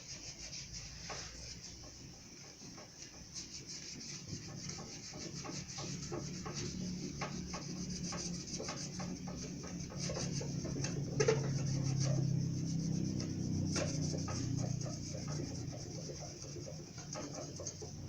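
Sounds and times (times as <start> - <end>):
low steady hum: 0.0 - 18.0
sponge scrubbing glass: 0.0 - 18.0.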